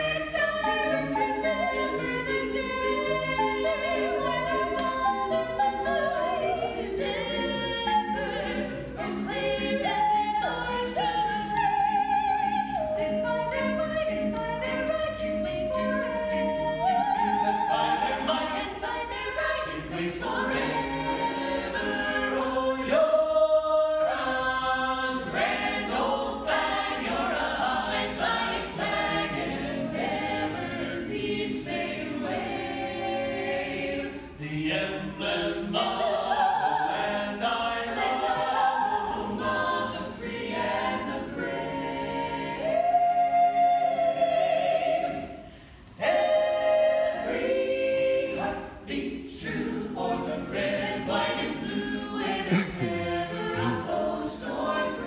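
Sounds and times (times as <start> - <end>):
vocal ensemble singing in harmony: 0.0 - 55.0.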